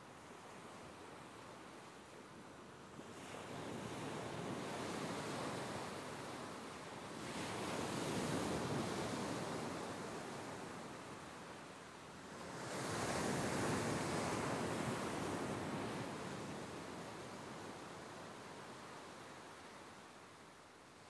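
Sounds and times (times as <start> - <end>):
waves breaking on a beach: 0.0 - 21.0.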